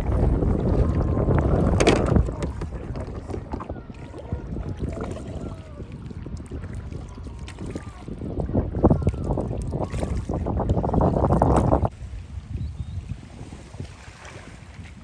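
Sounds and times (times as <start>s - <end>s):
paddle splashing and dripping: 0.0s - 15.0s
wind rumbling on microphone: 0.0s - 15.0s.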